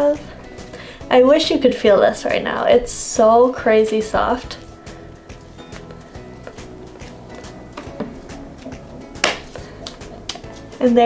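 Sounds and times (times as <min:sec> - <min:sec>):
quiet background music: 0:00.0 - 0:11.0
dough squishing: 0:01.4 - 0:11.0.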